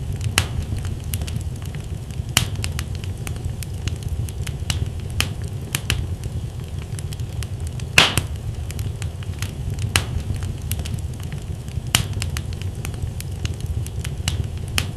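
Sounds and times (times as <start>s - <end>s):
wood fire burning in fireplace: 0.0s - 14.9s.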